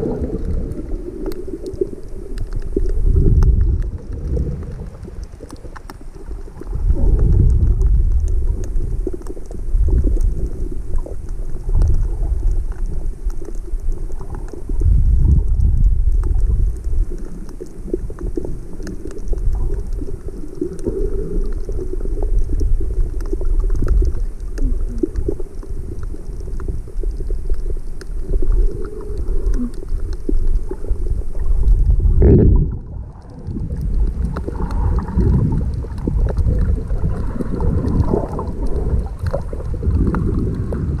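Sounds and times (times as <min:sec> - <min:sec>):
water rushing underwater: 0:00.0 - 0:41.0
faint clicks: 0:00.1 - 0:32.0, 0:32.6 - 0:41.0.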